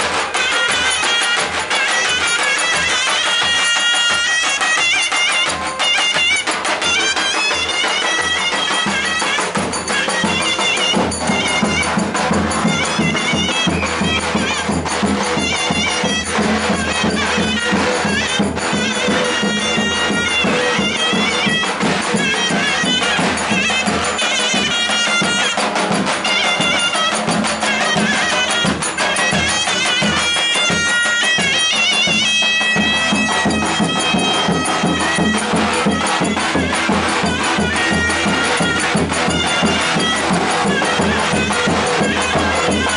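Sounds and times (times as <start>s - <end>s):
regular drum beat: 0.0s - 42.9s
shrill reed wind instrument melody: 0.0s - 42.9s.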